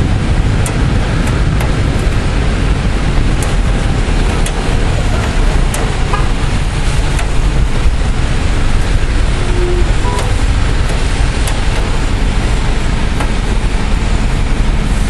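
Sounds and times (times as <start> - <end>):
heavy rain pouring: 0.0 - 15.0
sharp ticks of raindrops: 0.0 - 15.0
wind rumbling on microphone: 0.0 - 15.0.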